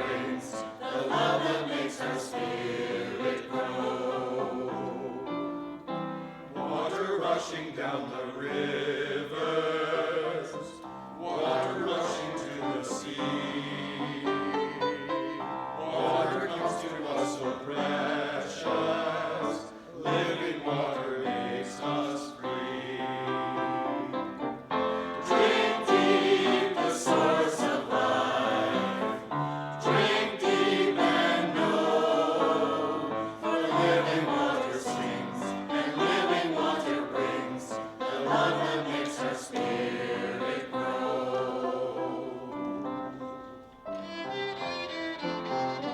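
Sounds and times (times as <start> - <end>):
church choir singing: 0.0 - 45.9.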